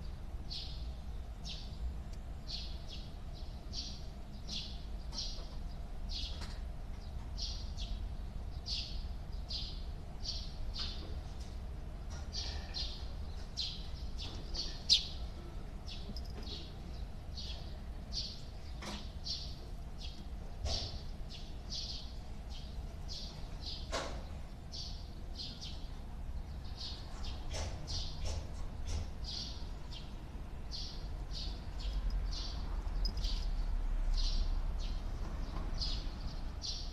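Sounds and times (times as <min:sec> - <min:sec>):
small bird chirping: 0:00.0 - 0:11.2, 0:12.3 - 0:36.9.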